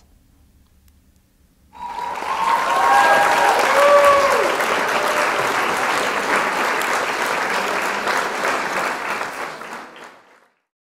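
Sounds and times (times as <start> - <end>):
crowd applauding: 1.7 - 10.7.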